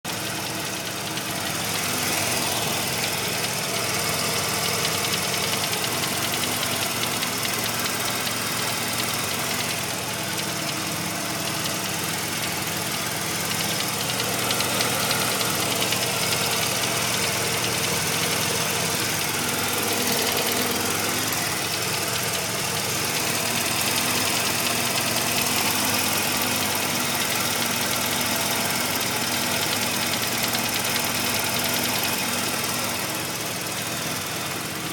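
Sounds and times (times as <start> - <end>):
rotary engine idling with knock: 0.1 - 34.9.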